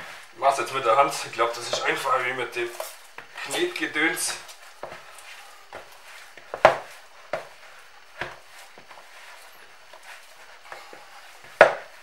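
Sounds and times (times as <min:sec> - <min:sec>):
dough kneaded in plastic bowl: 0:00.0 - 0:12.0.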